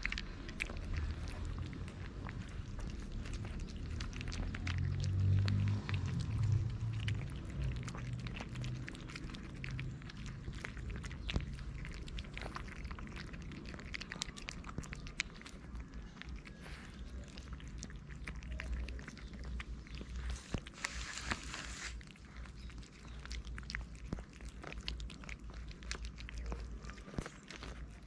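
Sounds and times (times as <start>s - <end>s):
cats chewing food: 0.0s - 28.0s.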